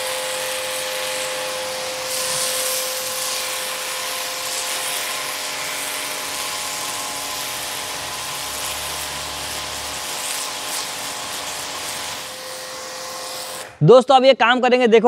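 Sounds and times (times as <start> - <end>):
pressure washer motor whine: 0.0 - 13.8
water jet hissing on concrete: 0.0 - 13.8.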